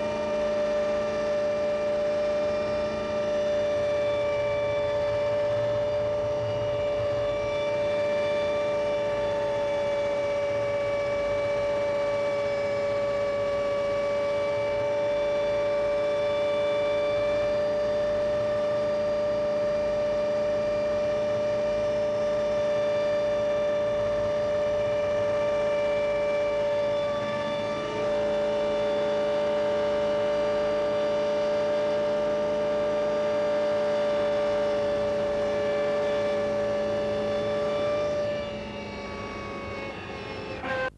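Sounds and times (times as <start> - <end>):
helicopter engine and rotor drone: 0.0 - 40.9
high-pitched whine: 0.0 - 40.9.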